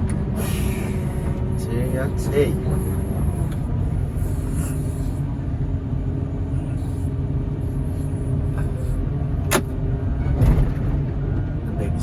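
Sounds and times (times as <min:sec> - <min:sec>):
faint steady hum: 0:00.0 - 0:10.0
large engine idling: 0:00.0 - 0:12.0.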